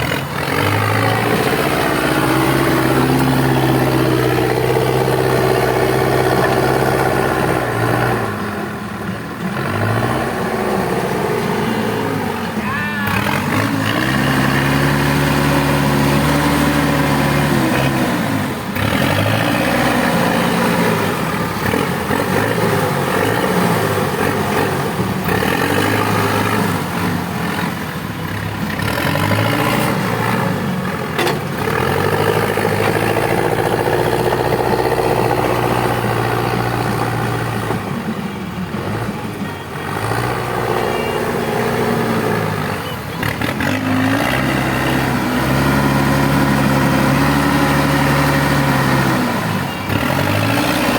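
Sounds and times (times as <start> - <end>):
diesel engine running hard: 0.0 - 50.9.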